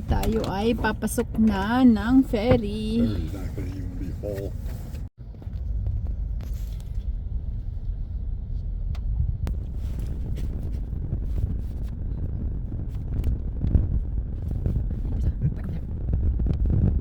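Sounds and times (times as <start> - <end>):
car driving low rumble: 0.0 - 17.0.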